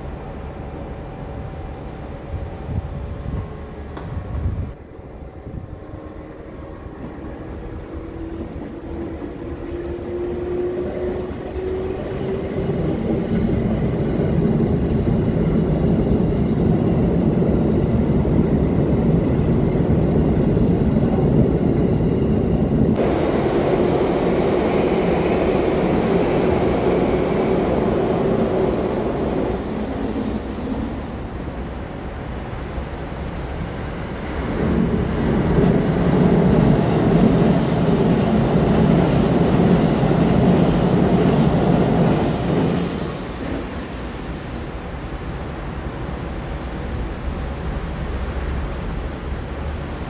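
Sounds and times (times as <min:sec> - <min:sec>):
train running past: 0:00.0 - 0:50.0.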